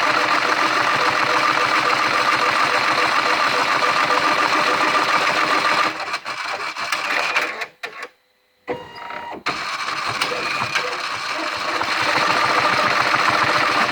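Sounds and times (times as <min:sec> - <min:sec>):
machine rhythmic clatter: 0:00.0 - 0:07.5, 0:09.4 - 0:13.9.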